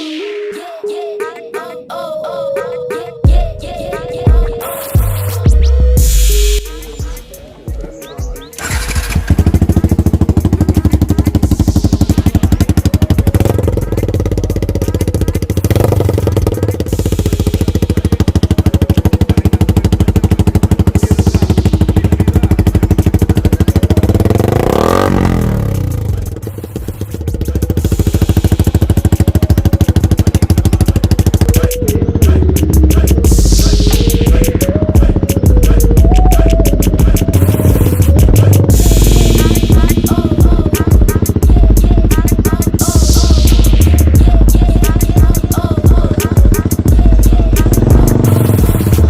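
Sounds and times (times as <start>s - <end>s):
motorcycle engine exhaust beat: 3.3s - 49.0s.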